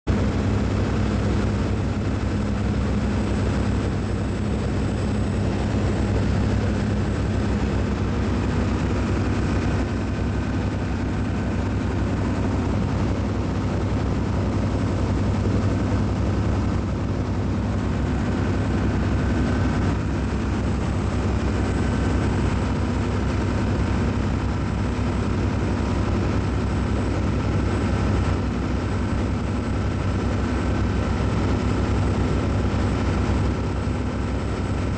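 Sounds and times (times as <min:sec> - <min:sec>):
ship engines low drone: 0:00.1 - 0:34.9.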